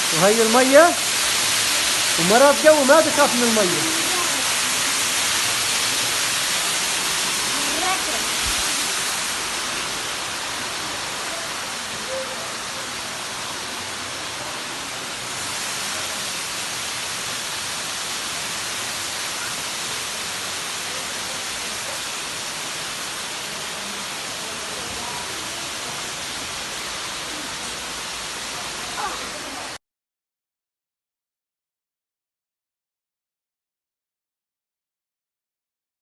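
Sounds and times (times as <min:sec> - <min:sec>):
waterfall rushing: 0:00.0 - 0:29.8.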